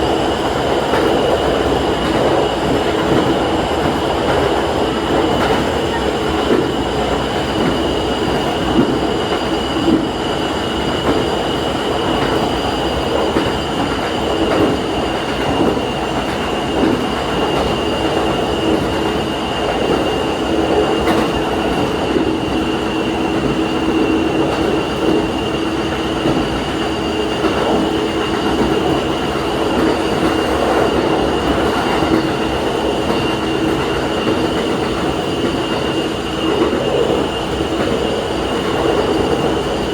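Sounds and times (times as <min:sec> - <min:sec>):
railcar engine drone: 0:00.0 - 0:39.9
wheel and rail noise: 0:00.0 - 0:39.9.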